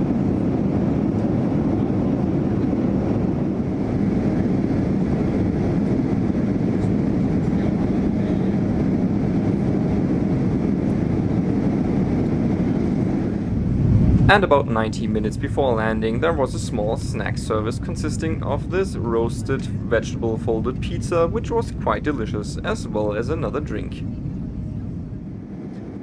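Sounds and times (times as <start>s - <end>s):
airplane cabin noise: 0.0s - 26.0s.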